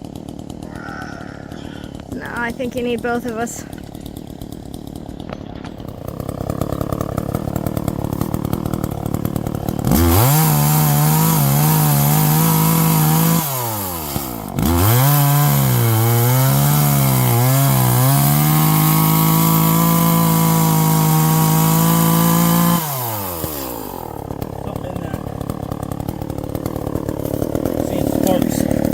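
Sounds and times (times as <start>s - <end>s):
chainsaw revving: 0.0s - 28.9s.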